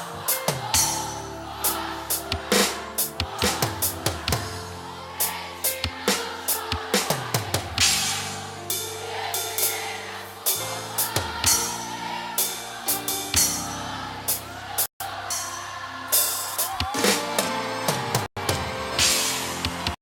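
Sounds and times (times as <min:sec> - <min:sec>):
electronic drum kit beat: 0:00.0 - 0:15.6, 0:16.2 - 0:20.0
bass and chord backing track: 0:00.0 - 0:20.0.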